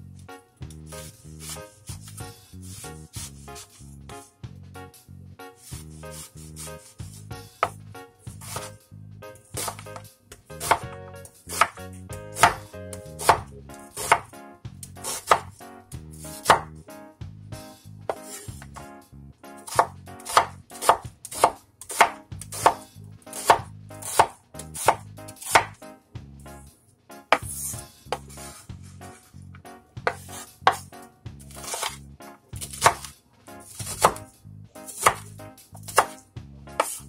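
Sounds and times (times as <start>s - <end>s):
knife chopping on wooden board: 0.7s - 4.2s, 5.6s - 8.8s, 9.6s - 16.8s, 17.6s - 18.9s, 19.6s - 25.8s, 27.3s - 29.2s, 30.0s - 32.0s, 32.6s - 37.0s.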